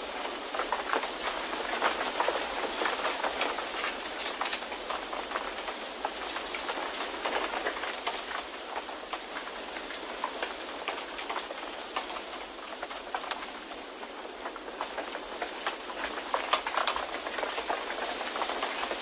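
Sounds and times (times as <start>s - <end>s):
continuous rushing hiss: 0.0s - 19.0s
light pattering ticks: 0.1s - 19.0s.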